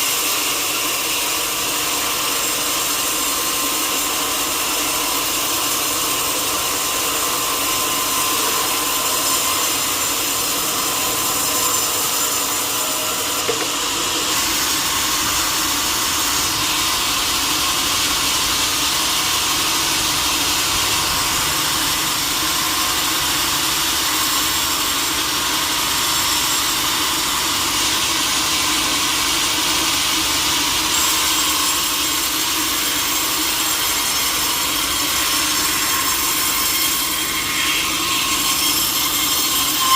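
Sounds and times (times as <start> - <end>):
sawmill saw cutting wood: 0.0 - 39.9.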